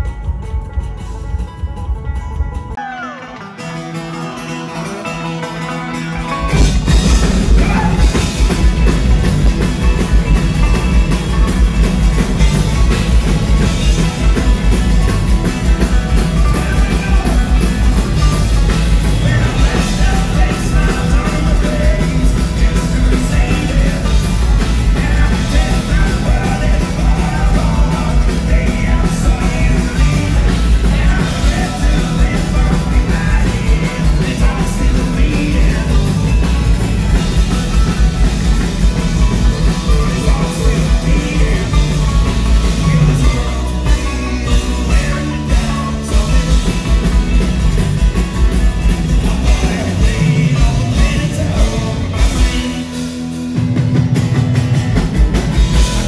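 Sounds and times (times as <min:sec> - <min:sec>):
rock music with singing: 0:00.0 - 0:56.0.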